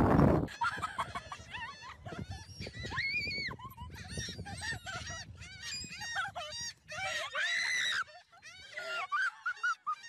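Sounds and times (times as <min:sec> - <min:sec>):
gulls calling: 0:00.5 - 0:10.0.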